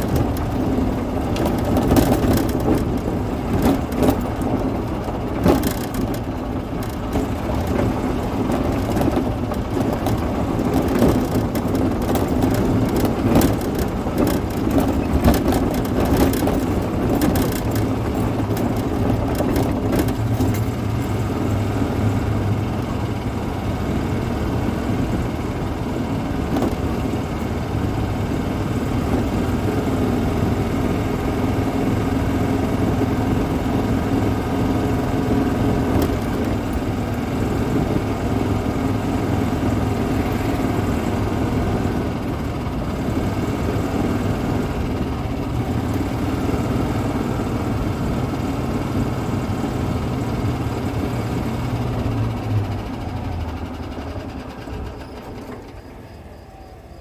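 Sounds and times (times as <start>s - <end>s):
cart rattling over bumps: 0.0s - 56.7s
golf cart motor running: 0.0s - 57.0s.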